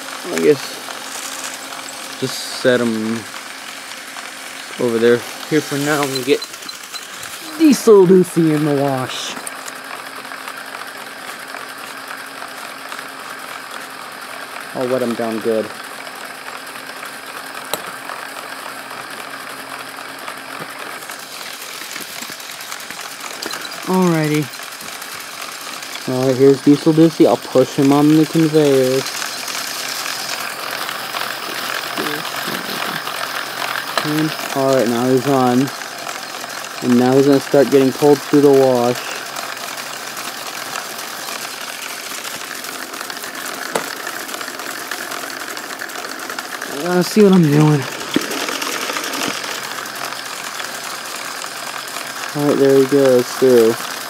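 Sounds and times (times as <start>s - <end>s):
small electric motors whirring: 0.0s - 54.0s.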